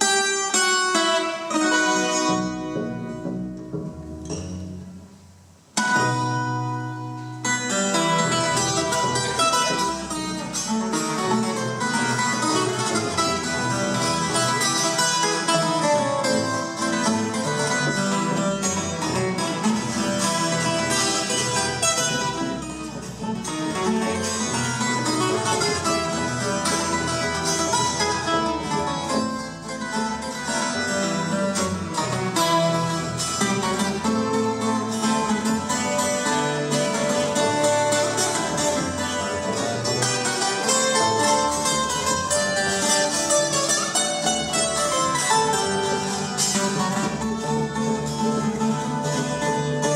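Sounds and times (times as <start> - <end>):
double bass line: 0.0 - 49.9
plucked and strummed strings: 0.0 - 49.9.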